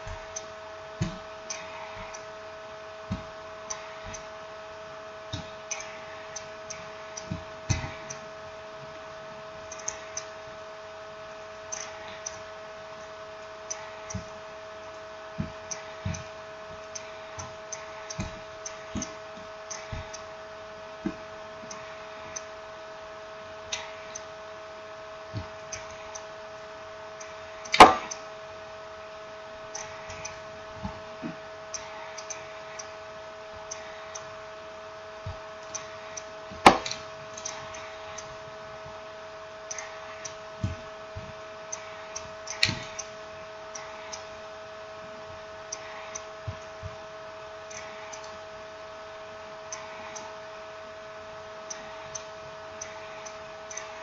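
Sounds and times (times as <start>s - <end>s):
two-note electrical hum: 0.0s - 54.0s.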